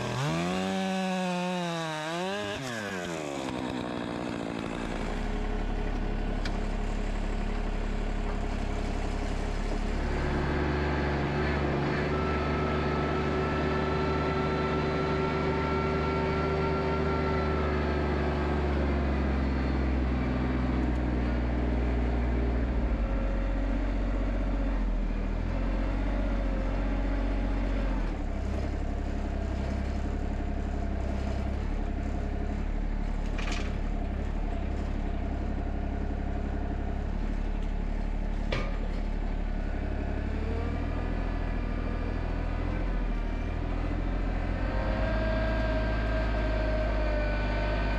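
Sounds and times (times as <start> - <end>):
tractor diesel engine running: 2.9 - 47.9.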